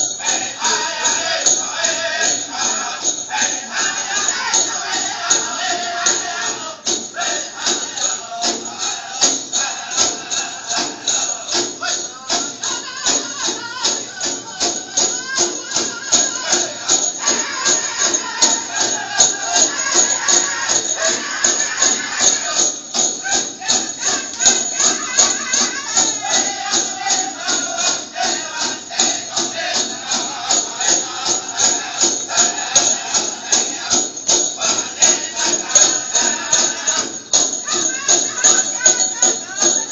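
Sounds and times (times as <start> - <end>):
fast steady drumbeat: 0.0 - 39.9
leg bells jingling: 0.0 - 39.9
people singing: 0.0 - 39.9.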